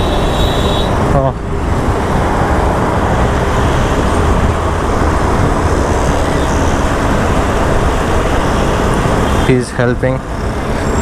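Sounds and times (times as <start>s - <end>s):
motorcycle engine: 0.0s - 11.0s
wind buffeting microphone: 0.0s - 11.0s.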